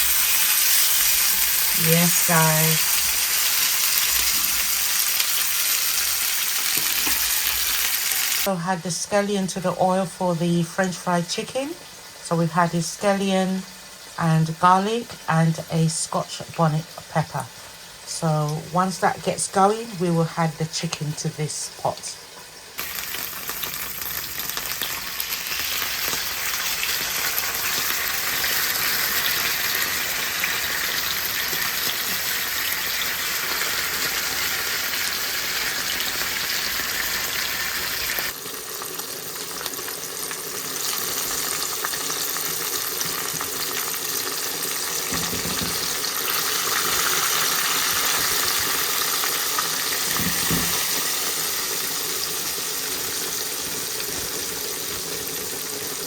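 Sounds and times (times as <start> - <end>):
oil sizzling in a pot: 0.0 - 56.0.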